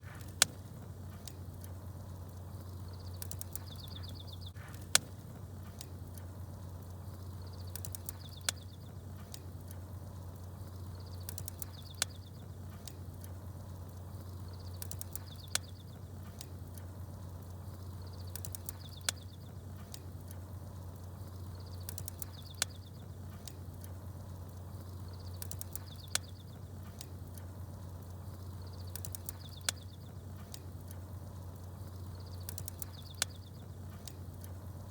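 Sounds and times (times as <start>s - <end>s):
campfire crackling: 0.0s - 34.9s
fire popping: 0.0s - 34.9s
small birds chirping: 0.0s - 34.9s
steady low hum: 0.0s - 34.9s.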